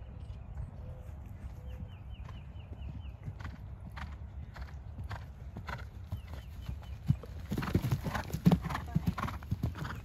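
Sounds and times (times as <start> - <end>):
horse hoofbeats on grass: 0.6 - 10.0.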